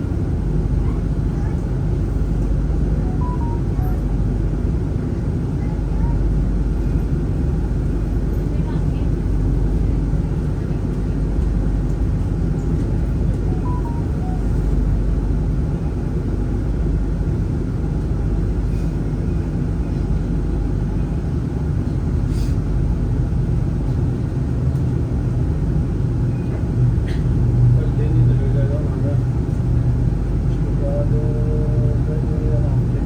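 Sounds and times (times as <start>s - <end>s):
tram rumbling: 0.0s - 33.0s.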